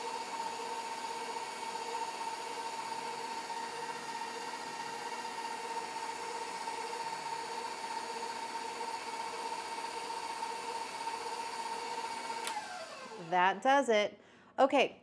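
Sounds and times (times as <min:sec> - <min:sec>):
stand mixer motor whine: 0:00.0 - 0:13.3.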